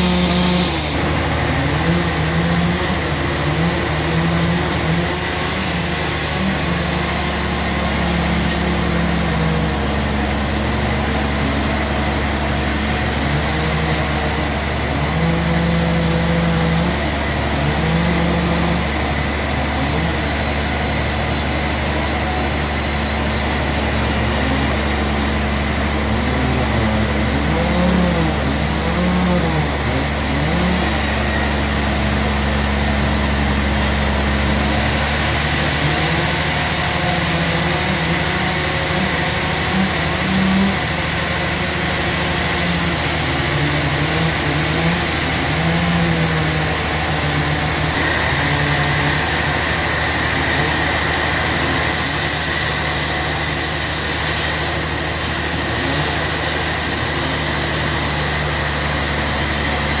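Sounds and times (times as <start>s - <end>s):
large engine humming: 0.0s - 60.0s.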